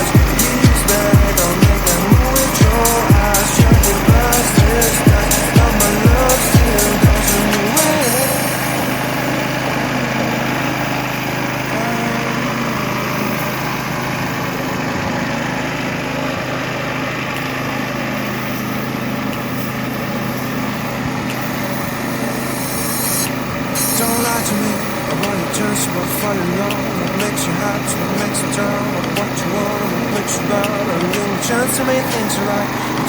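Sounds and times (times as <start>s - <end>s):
small motor whirring: 0.0s - 33.0s.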